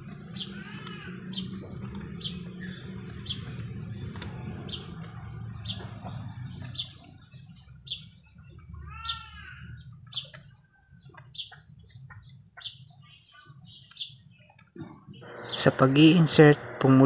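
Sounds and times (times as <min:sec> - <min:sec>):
small bird chirping: 0:00.0 - 0:16.5.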